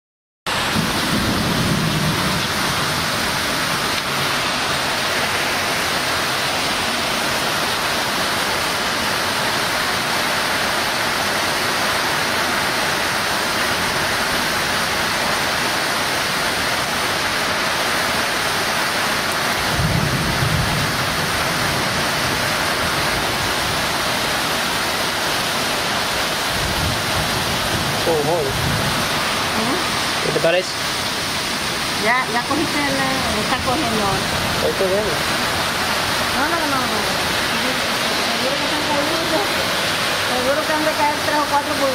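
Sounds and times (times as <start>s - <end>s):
heavy rain pouring: 0.5s - 41.9s.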